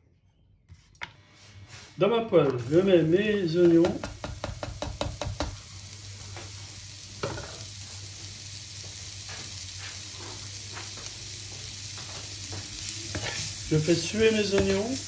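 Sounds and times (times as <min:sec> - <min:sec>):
onions sizzling in frying pan: 0:02.5 - 0:15.0.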